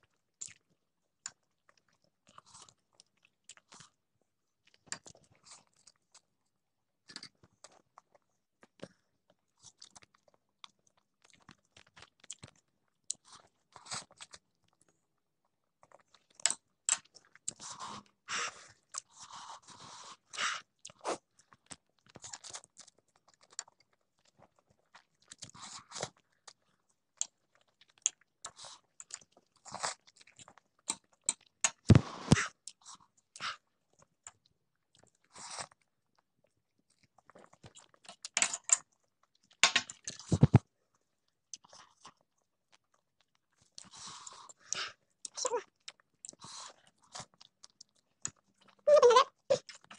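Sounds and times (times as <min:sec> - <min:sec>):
person chewing and smacking: 0:00.0 - 0:04.0, 0:04.6 - 0:06.4, 0:07.1 - 0:15.0, 0:15.7 - 0:49.9.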